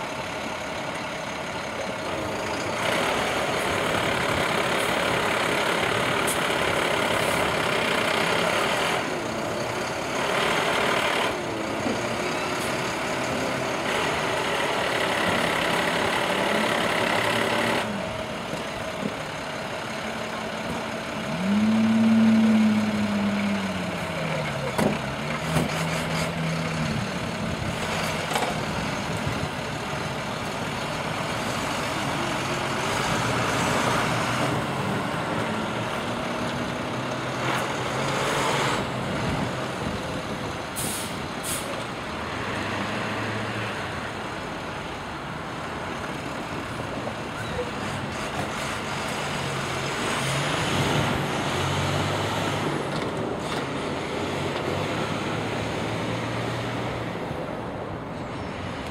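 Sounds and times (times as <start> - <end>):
truck engine revving: 2.0 - 44.2, 47.7 - 57.0.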